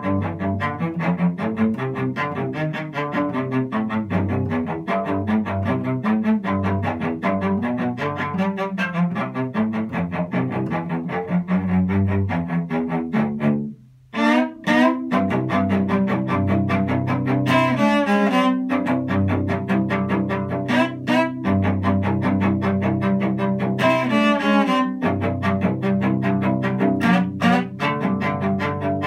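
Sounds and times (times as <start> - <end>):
solo cello bowed: 0.0 - 29.0.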